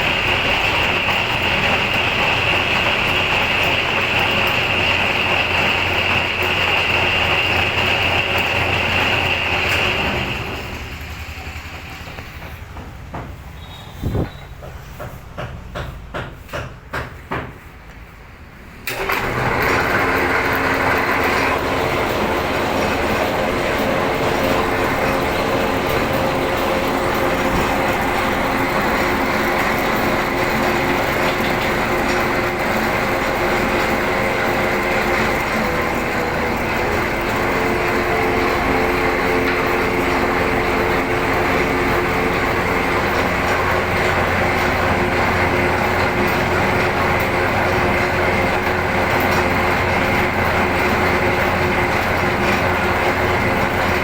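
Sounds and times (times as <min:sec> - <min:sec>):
metal lathe whining: 0:00.0 - 0:12.5, 0:18.8 - 0:54.0.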